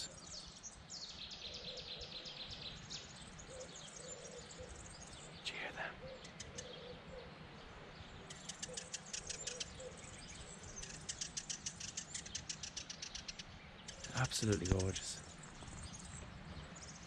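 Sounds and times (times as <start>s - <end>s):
faint bird calls: 0.0s - 17.0s
songbirds chirping: 0.0s - 17.0s.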